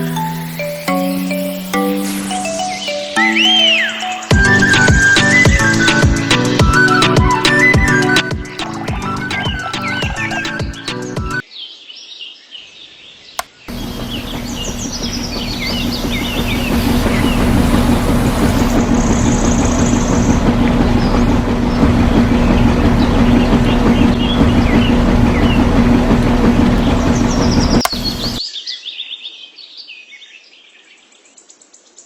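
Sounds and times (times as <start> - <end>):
machine hum: 0.0 - 11.4, 13.7 - 28.4
birds chirping: 0.0 - 29.3.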